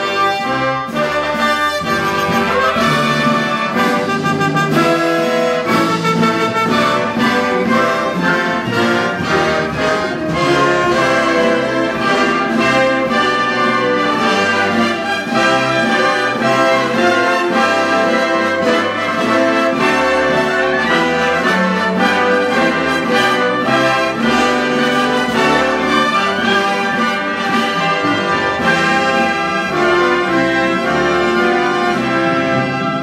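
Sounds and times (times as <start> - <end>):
brass section: 0.0 - 33.0
orchestra playing sustained chords: 0.0 - 33.0.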